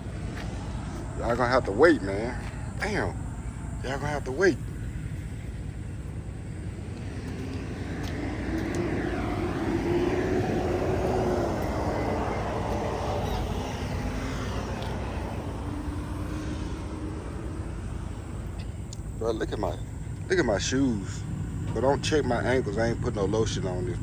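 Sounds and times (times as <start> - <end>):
passing vehicle engine: 0.0 - 24.0.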